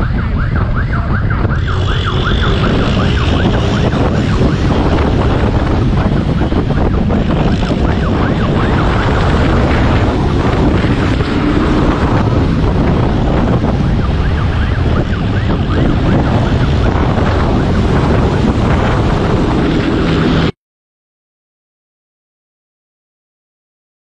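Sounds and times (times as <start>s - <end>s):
vehicle engine noise: 0.0s - 20.6s
wind rushing over microphone: 0.0s - 20.6s.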